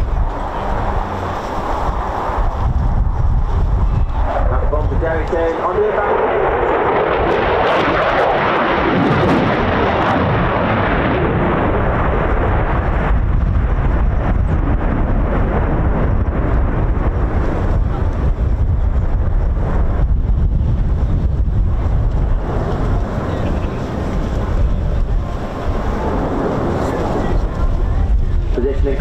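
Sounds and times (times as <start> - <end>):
loud jet engine noise: 0.0 - 29.0.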